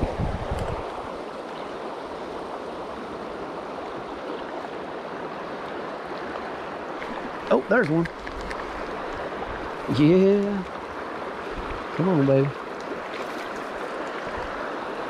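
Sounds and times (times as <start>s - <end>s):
river water rushing over rocks: 0.0s - 15.0s.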